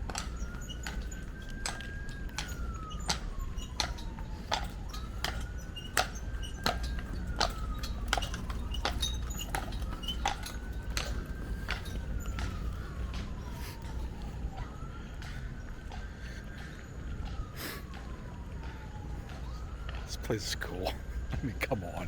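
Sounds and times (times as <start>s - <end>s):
hard clip-clop steps: 0.0s - 22.0s.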